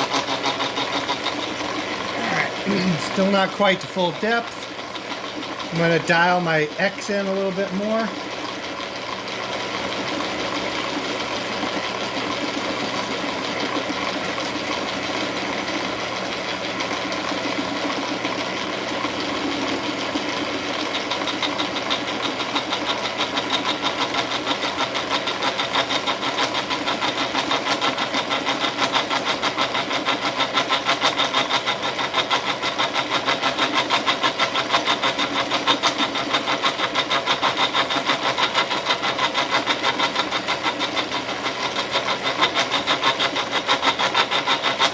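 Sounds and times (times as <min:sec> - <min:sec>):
milling machine cutting: 0:00.0 - 0:44.9.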